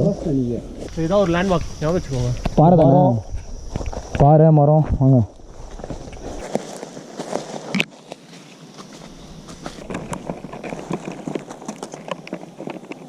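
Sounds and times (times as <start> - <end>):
footsteps crunching on forest trail: 0.7 - 4.2, 4.8 - 13.0.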